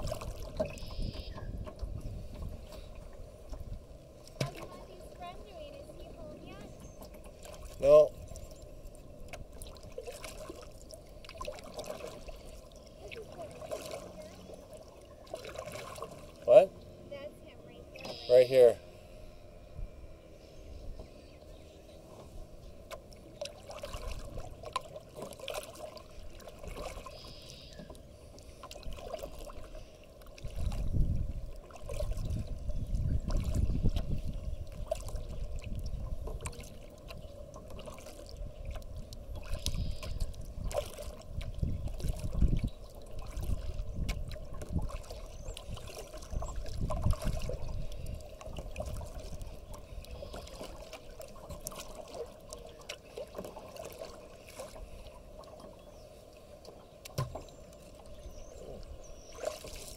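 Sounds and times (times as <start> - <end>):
paddle splashing water: 0.0 - 19.4, 20.6 - 59.9
water lapping against hull: 0.0 - 59.9.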